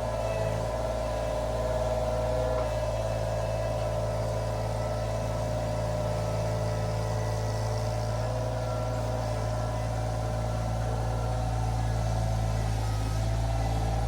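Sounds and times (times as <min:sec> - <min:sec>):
skid steer engine humming: 0:00.0 - 0:14.0.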